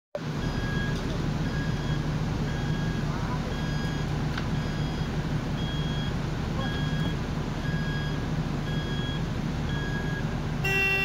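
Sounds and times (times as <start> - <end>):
diesel engine running: 0.2 - 11.0
back-up alarm beeping: 0.4 - 11.0.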